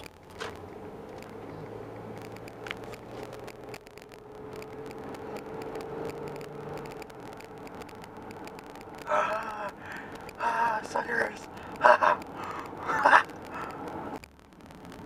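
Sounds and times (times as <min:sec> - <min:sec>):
engine and road hum: 0:00.0 - 0:15.0.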